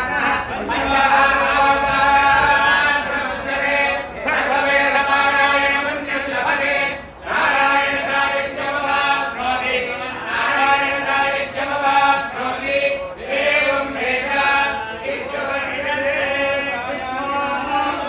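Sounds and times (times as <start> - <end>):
voices chanting in unison: 0.0 - 18.0.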